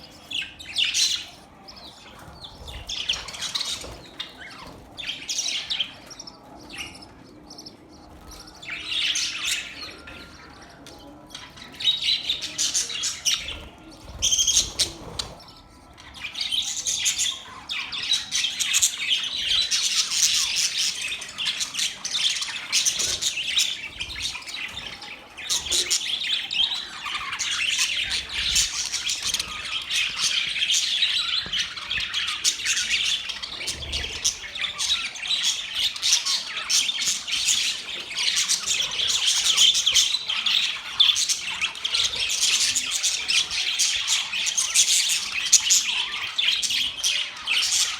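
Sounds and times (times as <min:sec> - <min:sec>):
budgerigars chirping and chattering: 0:00.0 - 0:47.9.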